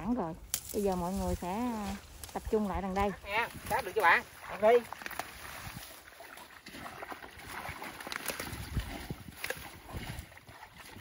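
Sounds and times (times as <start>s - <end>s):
water sloshing and splashing: 1.4s - 11.0s.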